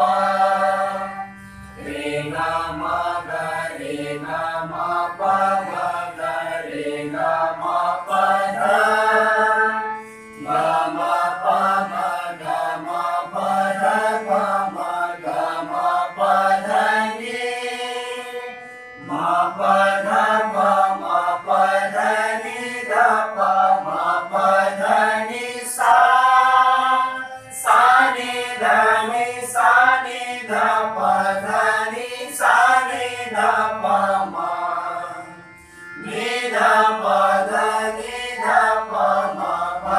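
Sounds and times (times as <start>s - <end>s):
group singing scale in unison: 0.0s - 39.9s
harmonium: 0.0s - 39.9s.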